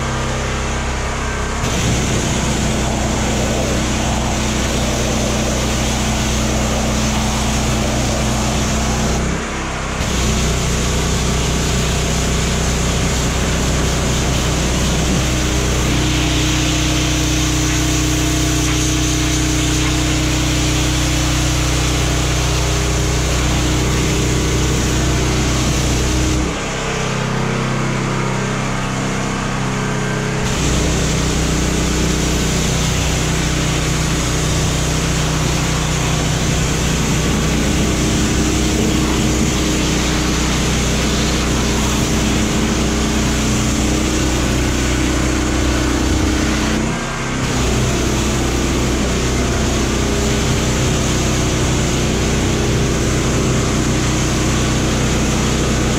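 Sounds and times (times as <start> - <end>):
pressure washer motor humming: 0.0 - 55.9
water jet hissing on metal: 1.6 - 9.4, 10.0 - 26.6, 30.4 - 55.9.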